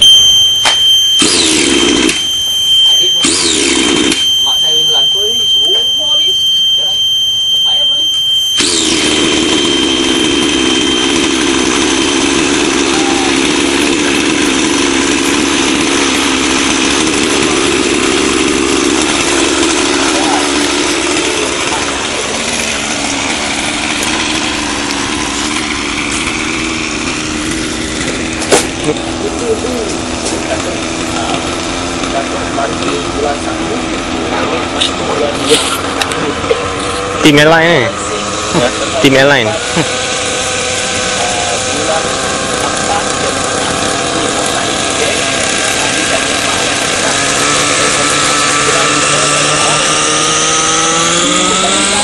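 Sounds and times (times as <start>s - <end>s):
model helicopter engine idling: 0.5s - 52.0s.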